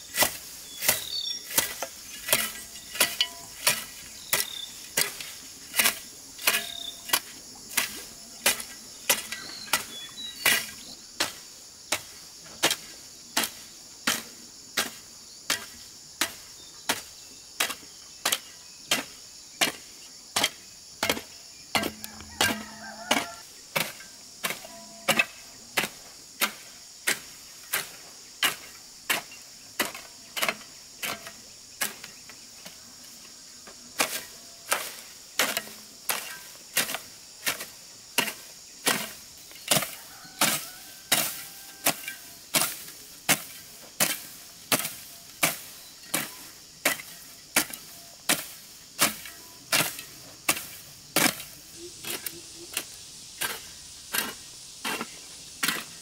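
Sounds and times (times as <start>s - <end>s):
hoe chopping into soil: 0.0s - 32.2s, 34.0s - 56.0s
high insect drone: 0.0s - 56.0s.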